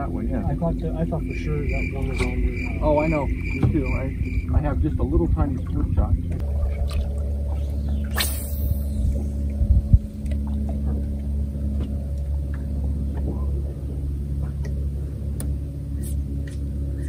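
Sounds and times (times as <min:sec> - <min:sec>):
electric trolling motor humming: 0:00.0 - 0:17.0.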